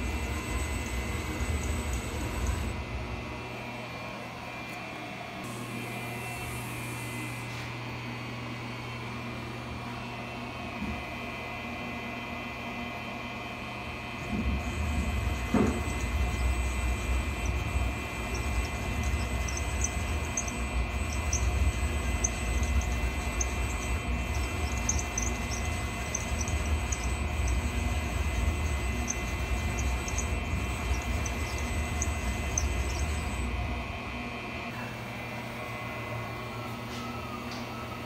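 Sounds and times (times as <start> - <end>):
high machine whine: 0.0 - 9.4, 13.9 - 38.0
quiet machine hum: 0.0 - 38.0.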